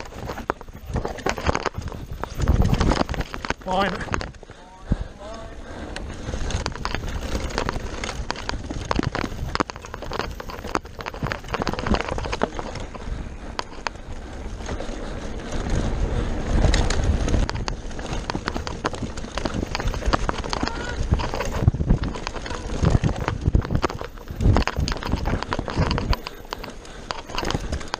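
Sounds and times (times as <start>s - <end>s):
tyres rolling over dirt and stones: 0.0s - 4.6s, 5.8s - 27.9s
bike rattling: 0.0s - 27.9s
wind buffeting microphone: 0.0s - 27.9s.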